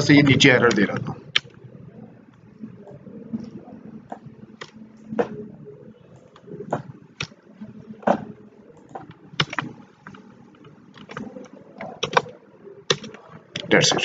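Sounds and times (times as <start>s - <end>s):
faint low hum: 0.0s - 14.0s
keystrokes on a computer keyboard: 0.6s - 1.6s, 2.3s - 5.4s, 6.1s - 7.4s, 8.0s - 14.0s.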